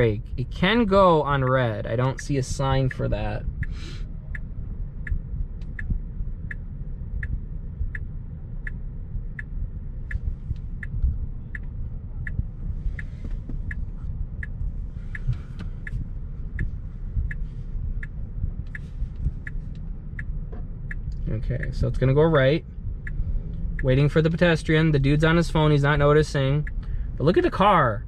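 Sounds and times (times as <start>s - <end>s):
low hum of city traffic: 0.0s - 28.0s
turn signal ticking: 0.0s - 28.0s.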